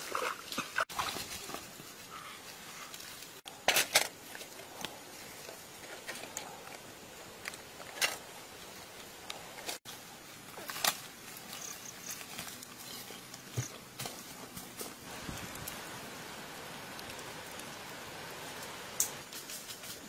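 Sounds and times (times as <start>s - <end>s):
crackles in dry forest litter: 1.0s - 20.0s
steady background hiss: 1.1s - 20.0s.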